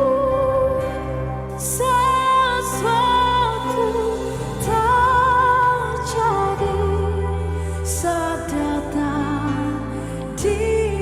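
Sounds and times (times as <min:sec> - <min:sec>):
solo voice singing with vibrato: 0:00.0 - 0:11.0.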